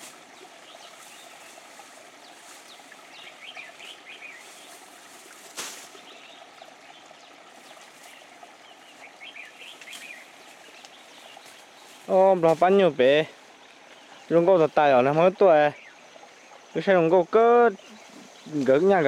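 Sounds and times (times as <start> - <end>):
birds chirping faintly: 0.0 - 19.0
outdoor background hiss: 0.0 - 19.0.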